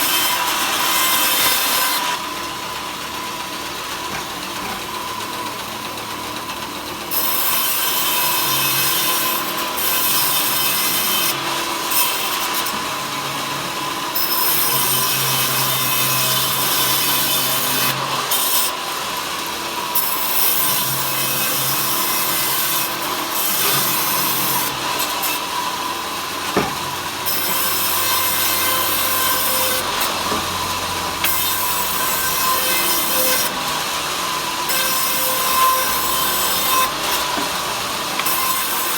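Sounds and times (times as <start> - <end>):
power saw cutting wood: 0.0 - 38.9.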